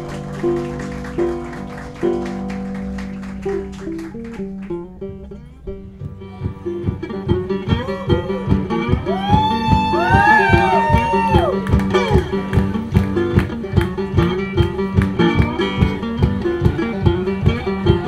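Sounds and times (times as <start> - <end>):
acoustic guitar chords: 0.0 - 18.0
quick picked guitar notes: 0.0 - 18.0.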